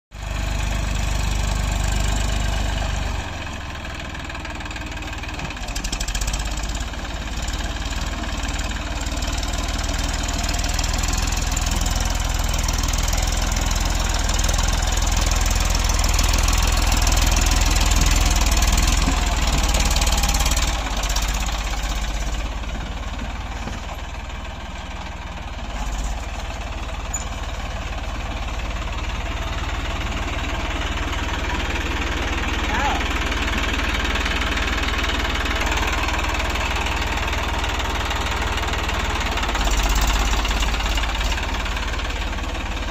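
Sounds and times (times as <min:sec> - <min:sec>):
tractor diesel engine running: 0:00.1 - 0:42.9.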